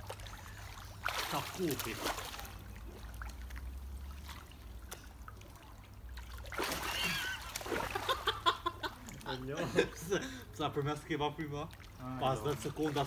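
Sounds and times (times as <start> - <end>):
water lapping and trickling: 0.0 - 13.0
water splashing: 0.0 - 13.0.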